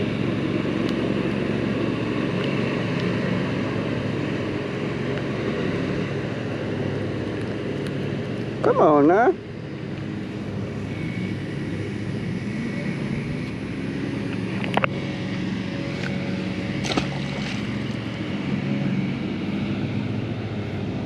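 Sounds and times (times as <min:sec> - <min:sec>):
motor hum: 0:00.0 - 0:21.0.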